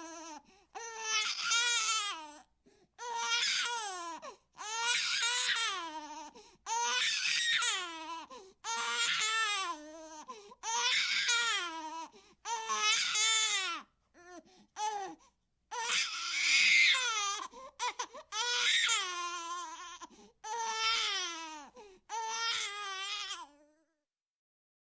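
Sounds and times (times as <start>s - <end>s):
infant crying: 0.0s - 23.8s.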